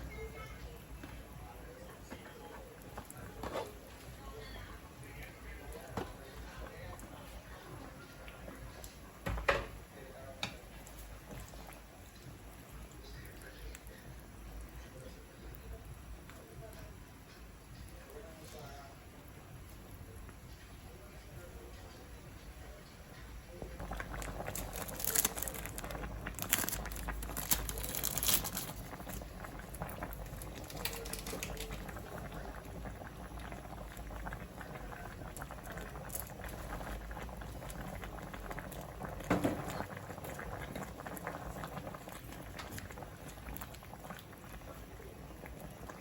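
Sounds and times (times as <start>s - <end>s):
food bubbling in a pan: 0.0s - 46.0s.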